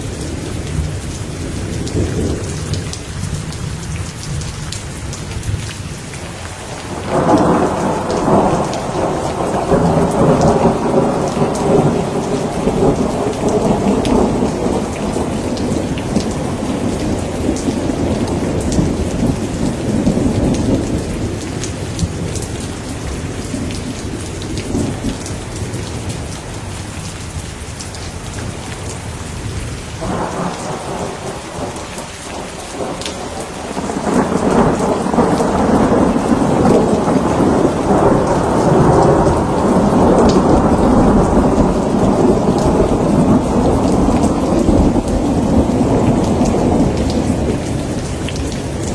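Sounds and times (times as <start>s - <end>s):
heavy rain: 0.0s - 48.9s
low rolling thunder: 6.6s - 26.8s, 28.4s - 48.9s.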